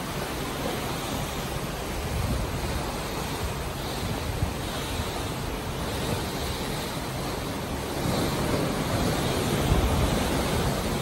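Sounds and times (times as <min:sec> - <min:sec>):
low wind rumble: 0:00.0 - 0:11.0
sea water rushing along hull: 0:00.0 - 0:11.0.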